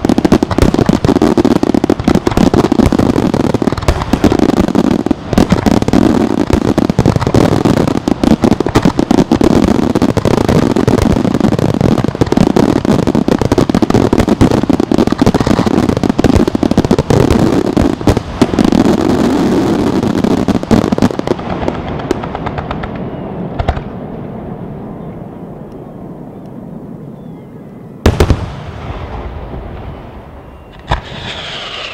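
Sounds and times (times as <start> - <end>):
fireworks bangs and crackle: 0.0 - 24.9, 28.0 - 31.9.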